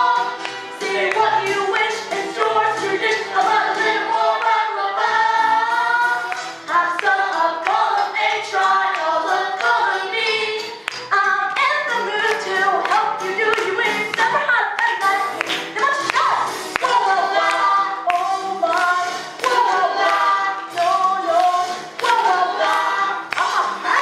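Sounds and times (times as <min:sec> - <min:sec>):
cast singing show tune: 0:00.0 - 0:24.0
recorded musical backing track: 0:00.0 - 0:24.0.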